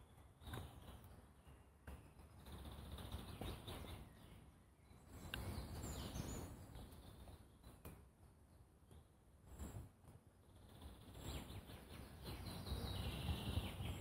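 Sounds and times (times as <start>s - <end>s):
faint bird chirps: 0.0s - 14.0s
wind rustling leaves: 0.0s - 14.0s.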